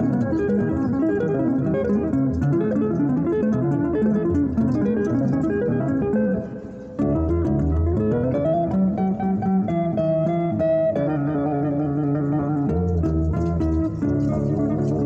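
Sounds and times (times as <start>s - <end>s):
electric guitar tapping: 0.0s - 15.0s.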